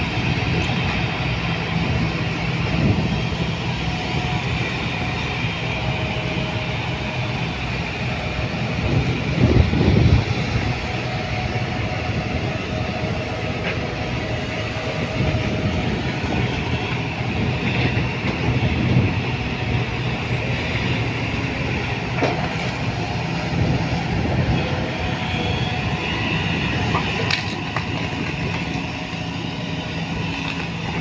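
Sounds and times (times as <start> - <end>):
excavator diesel engine running: 0.0 - 31.0
second excavator running: 0.0 - 31.0.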